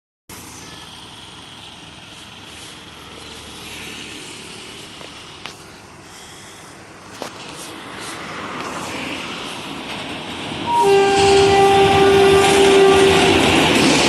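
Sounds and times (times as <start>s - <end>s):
train rumbling on rails: 0.3s - 14.0s.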